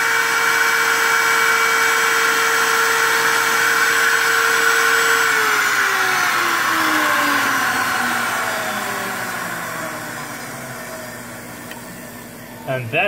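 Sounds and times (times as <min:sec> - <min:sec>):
cutter motor whine spinning down: 0:00.0 - 0:13.0.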